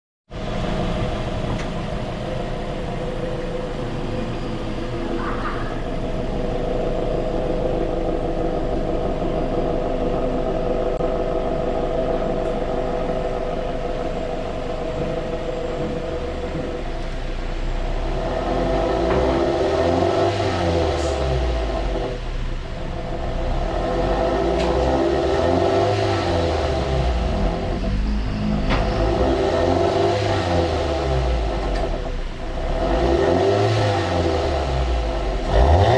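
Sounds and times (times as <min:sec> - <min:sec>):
car exhaust idling and revving: 0:00.3 - 0:35.9.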